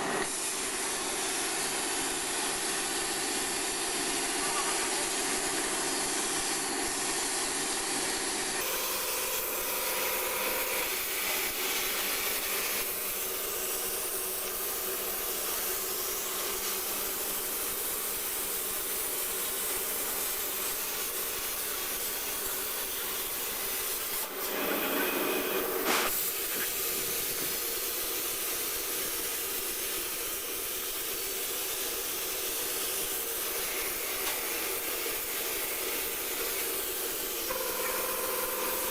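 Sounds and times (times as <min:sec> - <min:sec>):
plasma torch hissing: 0:00.0 - 0:38.9.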